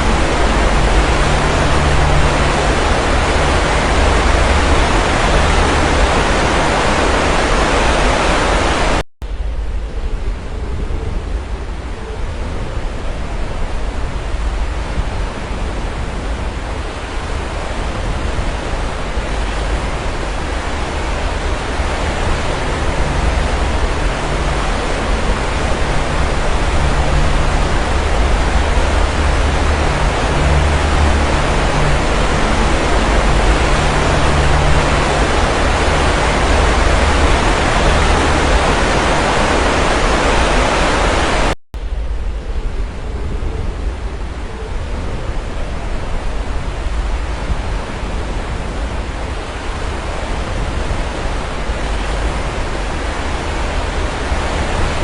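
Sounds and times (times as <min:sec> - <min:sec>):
sea waves washing onto shore: 0:00.0 - 0:09.0, 0:11.7 - 0:41.6, 0:43.7 - 0:55.0.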